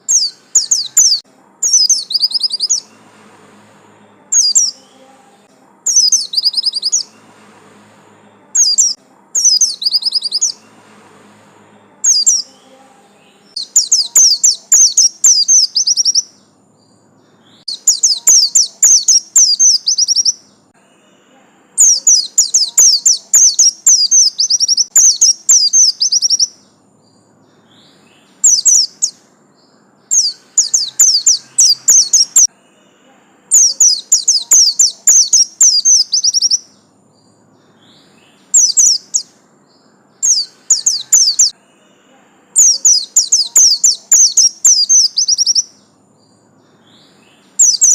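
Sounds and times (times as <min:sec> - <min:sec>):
bird singing high chirps: 0:00.0 - 0:10.9, 0:11.8 - 0:47.9.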